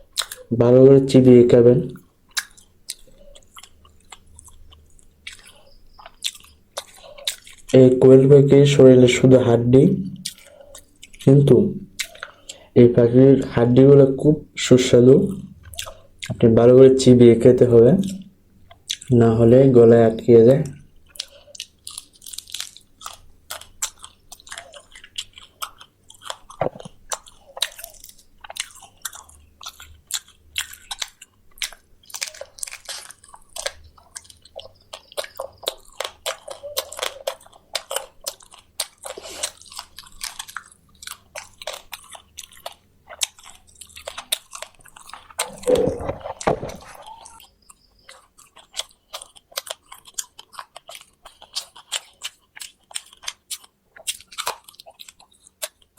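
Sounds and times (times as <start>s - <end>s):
chewing and crunching bones: 0.0s - 14.3s, 15.0s - 55.9s.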